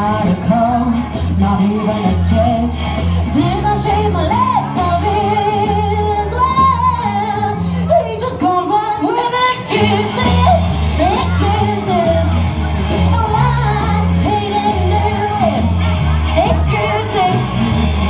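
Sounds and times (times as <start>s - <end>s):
live band playing: 0.0s - 18.0s
woman singing: 0.0s - 18.0s.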